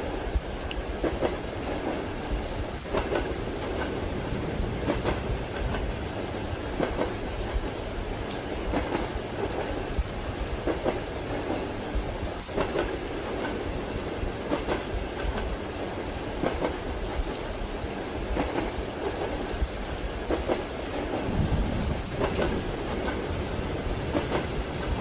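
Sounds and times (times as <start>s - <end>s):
train wheels clacking: 0.0s - 17.5s, 18.1s - 25.0s
rain: 0.0s - 25.0s.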